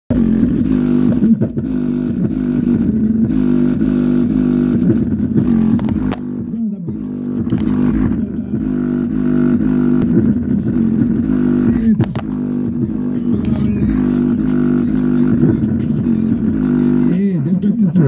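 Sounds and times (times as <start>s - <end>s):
bass-heavy music through subwoofer: 0.1s - 18.0s.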